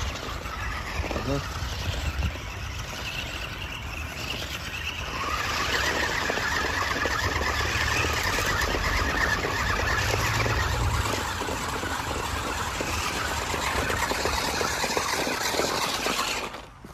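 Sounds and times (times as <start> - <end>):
toy car motor whining: 0.0 - 16.9.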